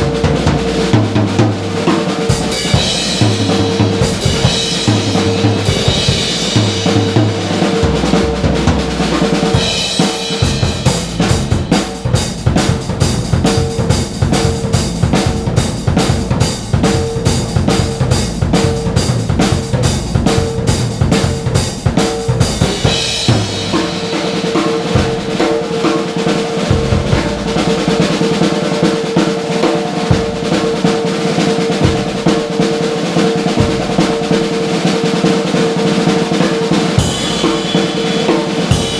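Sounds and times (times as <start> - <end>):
drum kit solo: 0.0 - 38.9.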